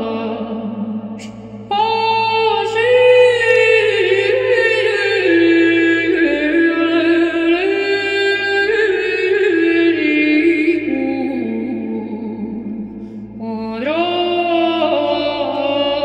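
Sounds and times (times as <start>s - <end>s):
unaccompanied chant singing: 0.0s - 12.1s, 13.4s - 16.0s.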